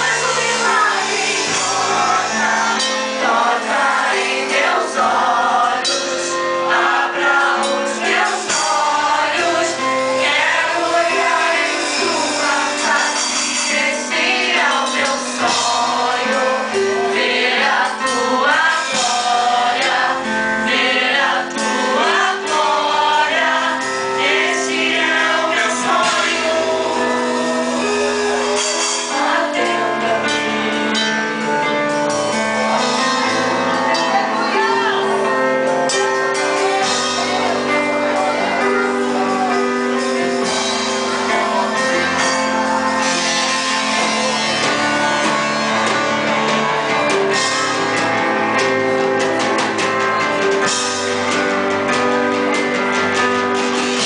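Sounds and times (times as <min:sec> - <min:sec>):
voices singing together: 0:00.0 - 0:50.8
band with electric guitars: 0:00.0 - 0:54.0.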